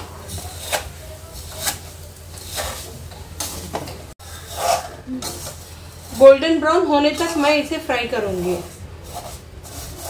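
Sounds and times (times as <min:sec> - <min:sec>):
spatula scraping in frying pan: 0:00.0 - 0:10.0.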